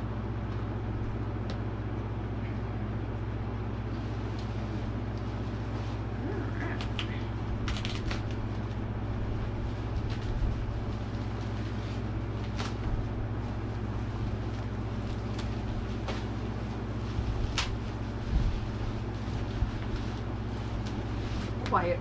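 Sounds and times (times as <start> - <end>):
steady low hum: 0.0 - 22.0
bubble wrap crackling: 3.8 - 22.0.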